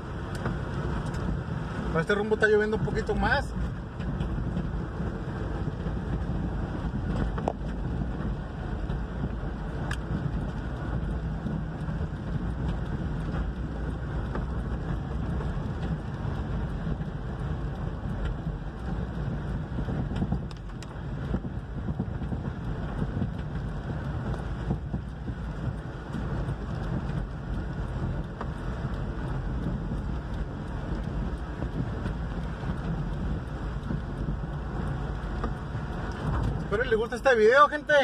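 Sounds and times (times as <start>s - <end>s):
raindrops ticking on windshield: 0.0s - 38.0s
road and engine rumble inside car: 0.0s - 38.0s.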